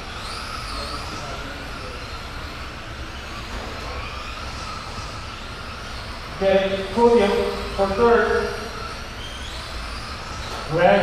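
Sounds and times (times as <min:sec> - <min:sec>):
electric motors of toy trucks whining: 0:00.0 - 0:11.0.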